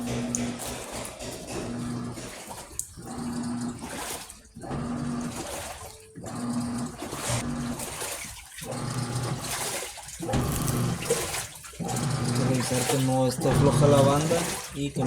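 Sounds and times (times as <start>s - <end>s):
washing machine motor humming: 0.0s - 15.0s
water sloshing in tub: 0.0s - 15.0s.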